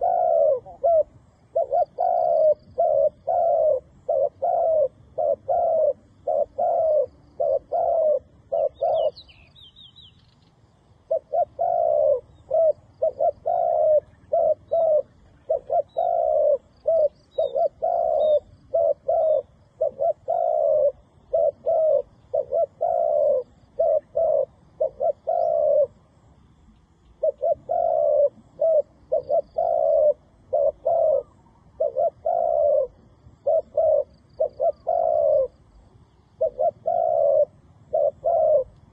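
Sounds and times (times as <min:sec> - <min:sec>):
dove cooing: 0:00.0 - 0:09.6, 0:11.0 - 0:38.9
small birds chirping: 0:00.0 - 0:38.9.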